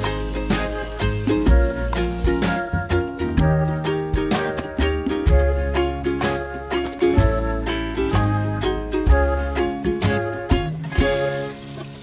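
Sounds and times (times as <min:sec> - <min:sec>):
upbeat plucked string music: 0:00.0 - 0:12.0.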